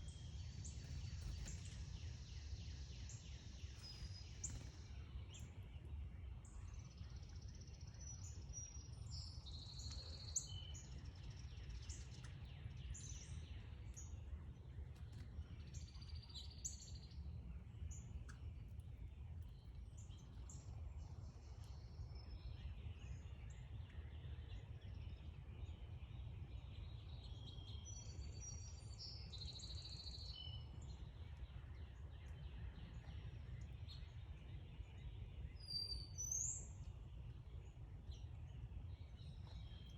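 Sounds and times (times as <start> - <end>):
low background rumble: 0.0 - 39.9
songbirds chirping: 0.0 - 39.9.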